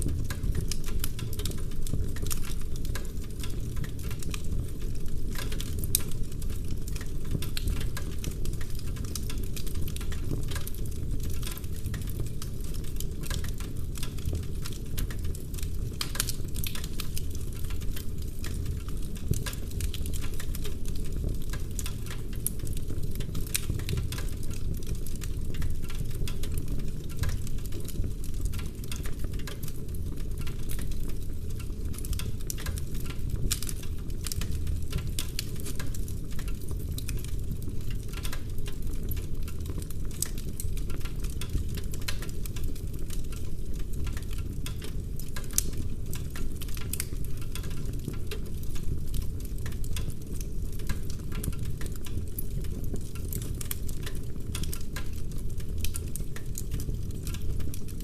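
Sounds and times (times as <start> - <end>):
fire low rumble: 0.0 - 58.0
logs crackling and popping: 0.0 - 58.0.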